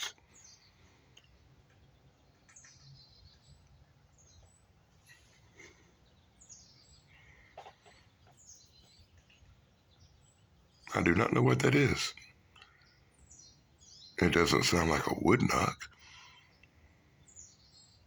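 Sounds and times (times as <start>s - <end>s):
faint high bird calls: 0.0s - 18.0s.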